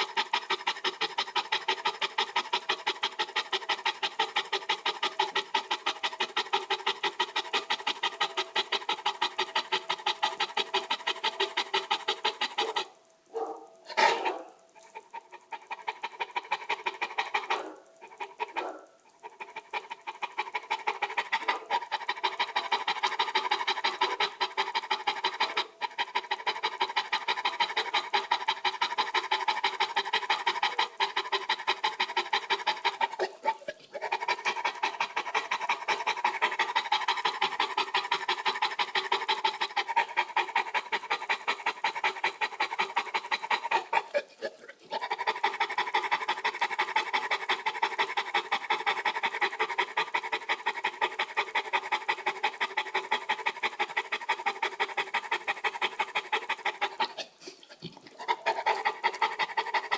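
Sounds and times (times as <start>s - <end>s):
dog panting: 0.0s - 59.9s.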